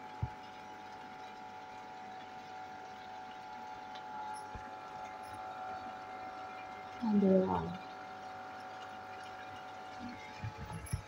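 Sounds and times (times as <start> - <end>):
chicken frying in oil: 0.0 - 11.0
faint steady hum: 0.0 - 11.0.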